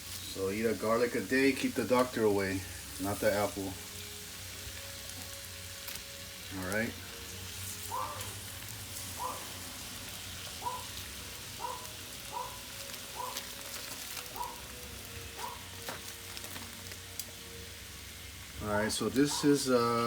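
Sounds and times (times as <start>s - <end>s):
garlic sizzling in oil: 0.0s - 20.0s.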